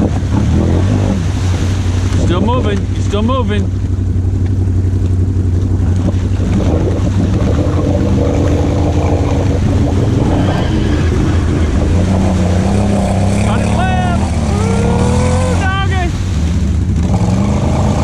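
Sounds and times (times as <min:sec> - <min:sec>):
atv engines humming: 0:00.0 - 0:18.0
engine note wavering: 0:00.0 - 0:18.0.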